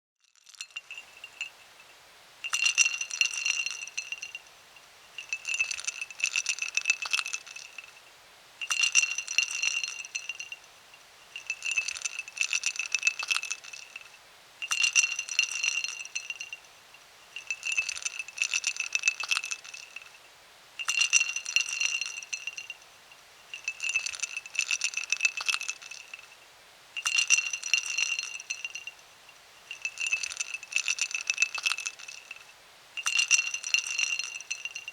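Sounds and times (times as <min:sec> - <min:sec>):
ice cubes clinking into glass: 0:00.3 - 0:04.5, 0:05.2 - 0:08.0, 0:08.6 - 0:10.7, 0:11.3 - 0:16.7, 0:17.3 - 0:20.2, 0:20.8 - 0:22.8, 0:23.5 - 0:26.3, 0:27.0 - 0:29.0, 0:29.7 - 0:34.9.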